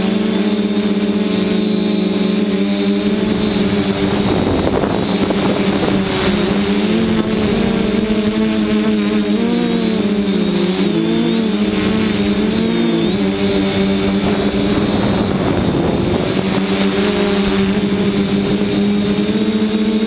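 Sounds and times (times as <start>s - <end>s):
drone motors whining: 0.0s - 20.0s
rushing air: 2.7s - 19.0s.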